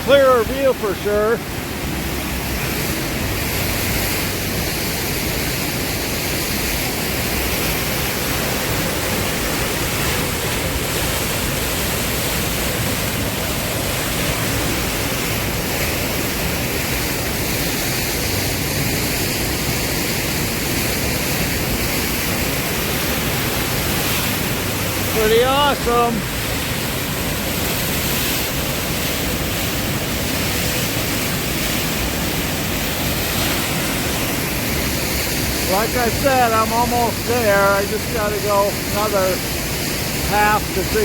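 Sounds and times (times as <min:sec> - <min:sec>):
creek rushing down rocks: 0:00.0 - 0:41.0.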